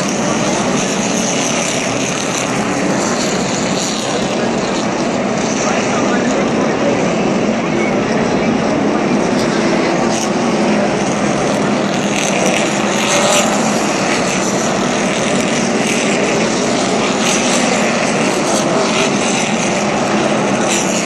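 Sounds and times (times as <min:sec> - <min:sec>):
cars passing by: 0:00.0 - 0:21.0
stock car engines droning: 0:00.0 - 0:21.0.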